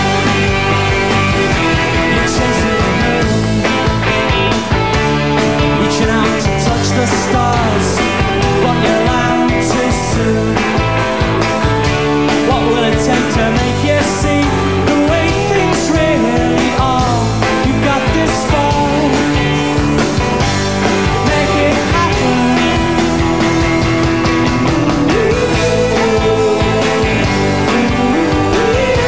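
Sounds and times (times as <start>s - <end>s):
drums keeping a beat: 0.0s - 29.0s
live rock band playing: 0.0s - 29.0s.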